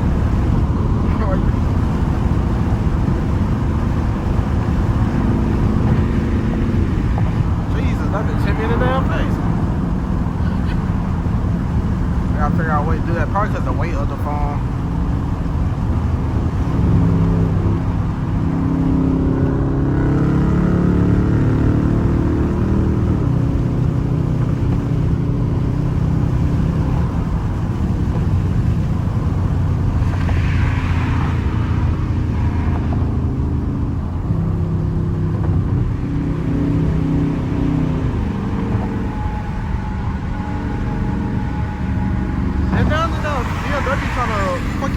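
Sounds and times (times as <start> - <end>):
car exhaust accelerating: 0.0 - 44.9.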